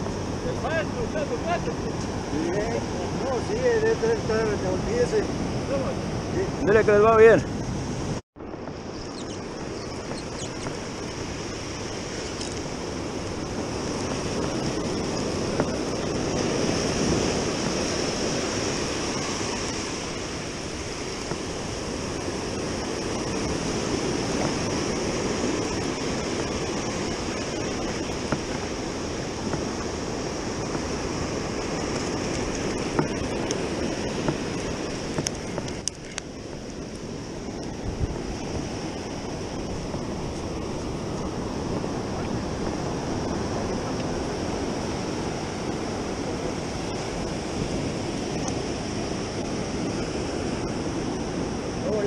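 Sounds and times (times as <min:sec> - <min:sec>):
ocean surf breaking: 0:00.0 - 0:52.0.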